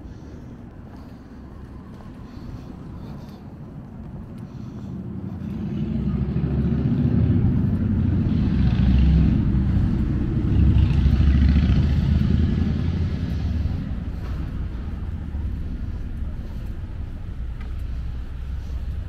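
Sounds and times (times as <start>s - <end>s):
heavy vehicle engine rumble: 0.0s - 19.0s.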